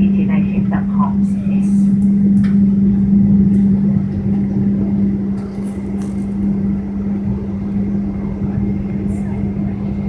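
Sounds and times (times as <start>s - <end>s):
airplane cabin hum: 0.0s - 10.0s.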